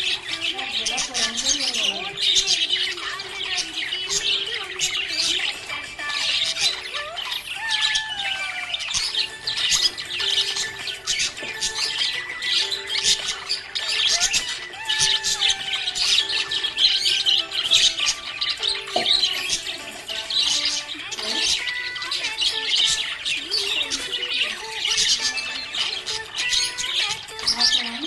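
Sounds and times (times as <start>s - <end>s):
background music with held notes: 0.0s - 28.0s
budgerigars chirping and chattering: 0.0s - 28.0s.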